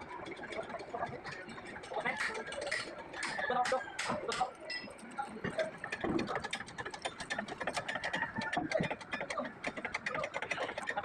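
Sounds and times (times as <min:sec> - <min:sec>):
rapid irregular clicking: 0:00.0 - 0:11.0.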